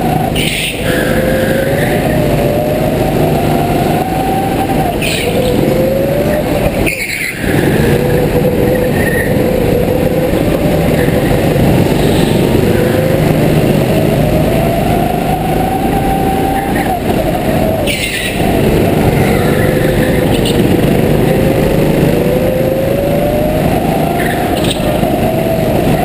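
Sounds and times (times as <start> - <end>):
go-kart motor whining: 0.0 - 26.0
steady rumble: 0.0 - 26.0.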